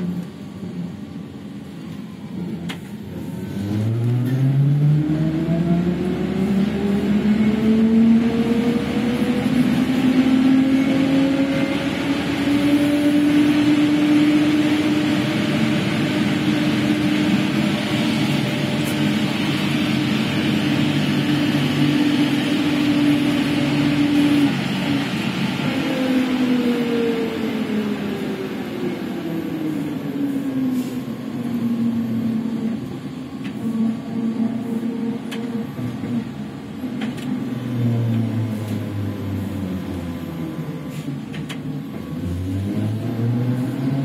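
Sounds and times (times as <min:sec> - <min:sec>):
road noise: 0:00.0 - 0:44.0
trolleybus electric motor whining: 0:00.0 - 0:44.0.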